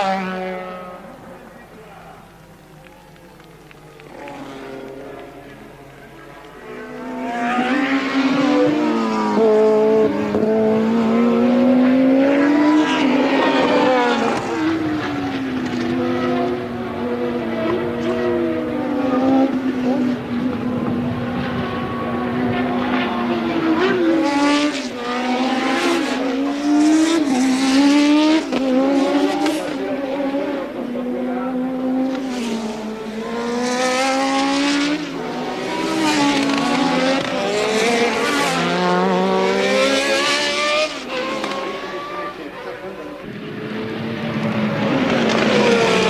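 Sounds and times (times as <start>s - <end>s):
racing car engines at high revs: 0.0s - 1.6s, 3.6s - 46.0s.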